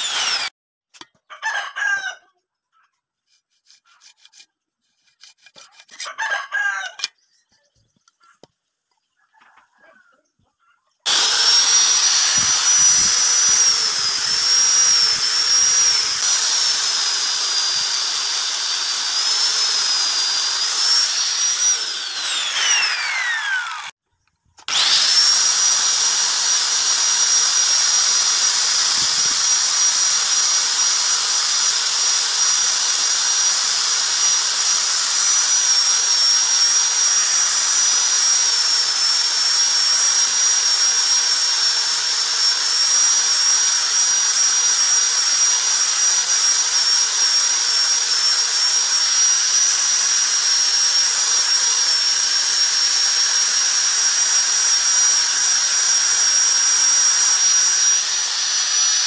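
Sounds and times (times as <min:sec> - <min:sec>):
angle grinder whining: 0:00.0 - 0:00.6, 0:11.1 - 0:24.0, 0:24.6 - 0:59.0.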